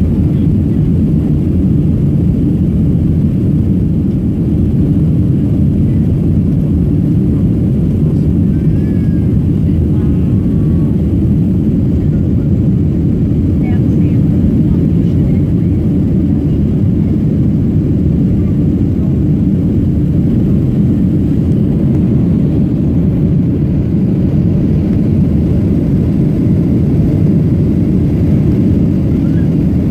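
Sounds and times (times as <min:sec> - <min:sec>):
jet engines rumbling in cabin: 0:00.0 - 0:29.9.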